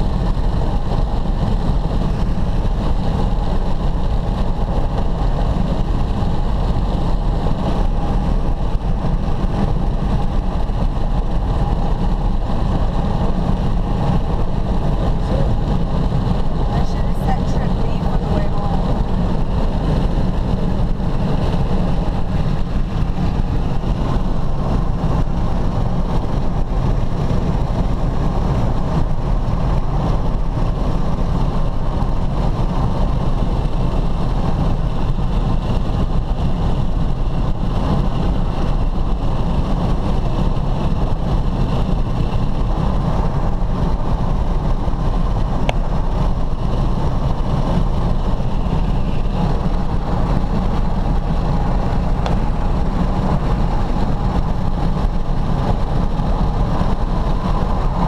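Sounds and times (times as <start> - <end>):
low engine rumble: 0.0 - 58.0.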